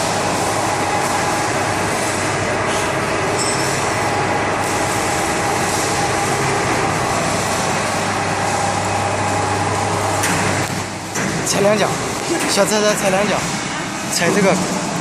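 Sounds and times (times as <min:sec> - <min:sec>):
hydraulic pump motor humming: 0:00.0 - 0:15.0.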